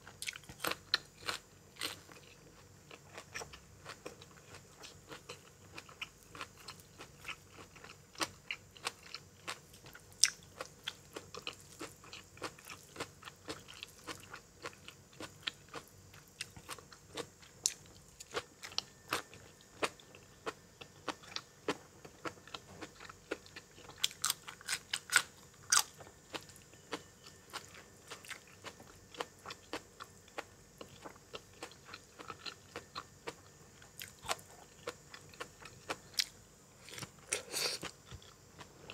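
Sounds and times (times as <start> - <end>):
close chewing and crunching food: 0.0 - 38.9.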